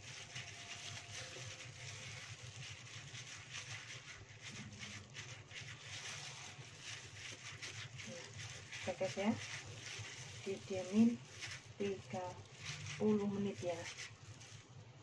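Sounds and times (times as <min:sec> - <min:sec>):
wet squishing of marinade: 0:00.0 - 0:14.8
plastic glove rustling: 0:00.0 - 0:15.0.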